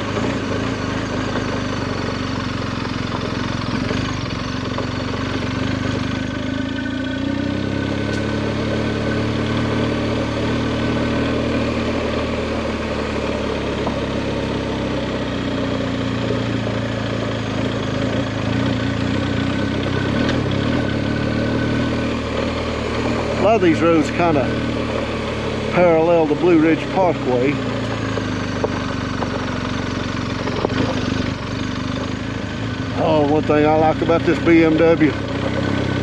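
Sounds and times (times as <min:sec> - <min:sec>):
motorcycle engine at low revs: 0:00.0 - 0:36.0
wind and tyre noise: 0:00.0 - 0:36.0.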